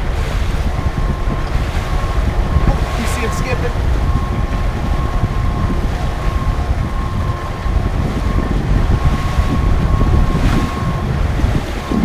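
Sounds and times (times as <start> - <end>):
boat motor humming: 0.0 - 12.0
water rushing past: 0.0 - 12.0
wind buffeting microphone: 0.0 - 12.0.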